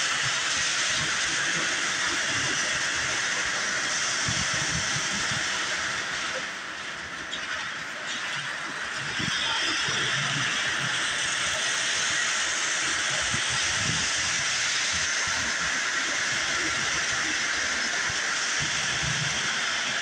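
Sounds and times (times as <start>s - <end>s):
toy trains whirring on metal track: 0.0s - 20.0s.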